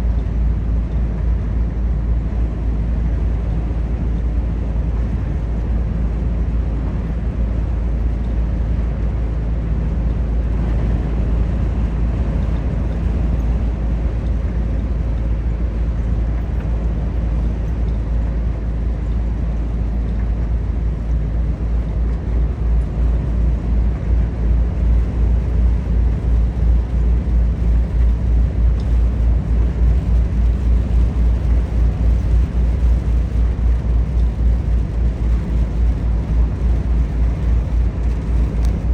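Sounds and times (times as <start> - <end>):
truck engine and tyres rumbling: 0.0 - 38.9.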